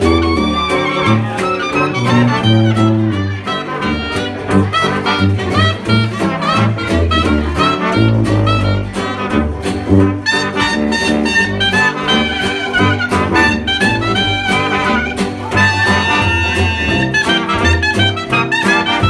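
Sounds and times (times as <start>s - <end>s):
jazz band playing live: 0.0s - 19.0s
washboard beat: 0.0s - 19.0s.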